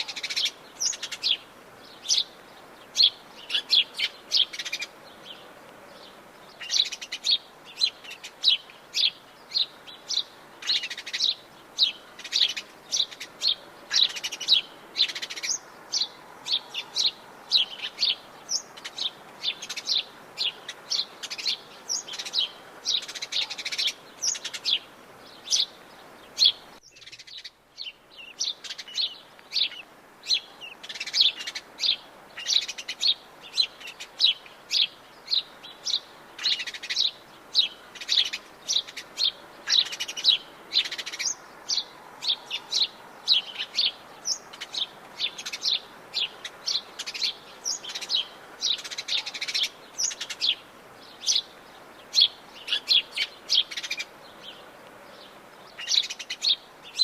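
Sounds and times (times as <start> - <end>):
faint background hiss: 0.0 - 57.0
forest birds chirping: 0.0 - 57.0.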